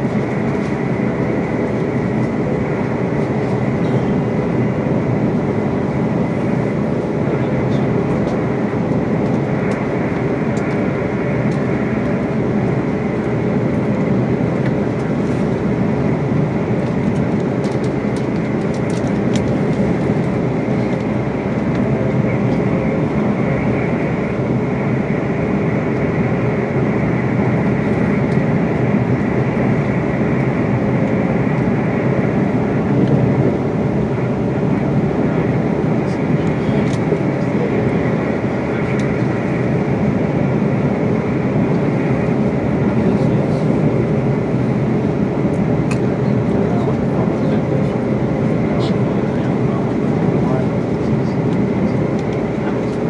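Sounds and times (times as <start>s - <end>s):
train interior running noise: 0.0s - 53.0s.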